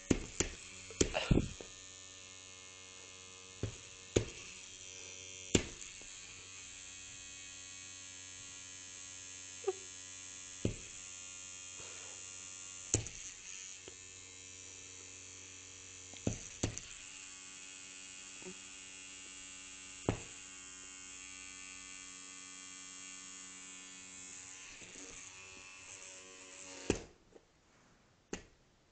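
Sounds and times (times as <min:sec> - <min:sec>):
electric toothbrush buzzing: 0:00.0 - 0:27.1.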